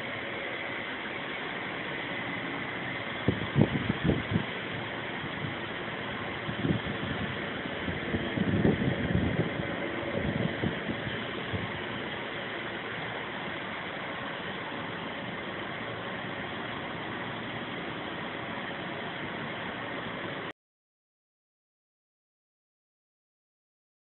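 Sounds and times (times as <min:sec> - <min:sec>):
fan machinery whooshing hum: 0:00.0 - 0:20.5.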